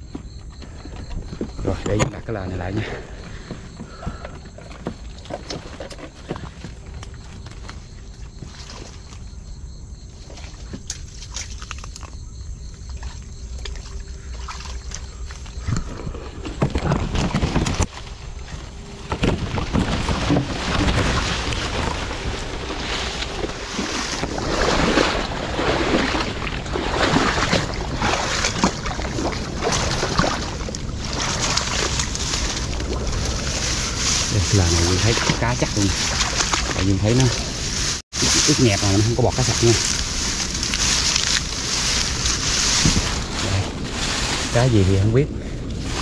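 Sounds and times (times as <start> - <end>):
rustling of grass and leaves: 0.2 - 46.0
water sloshing: 0.6 - 16.7, 19.4 - 46.0.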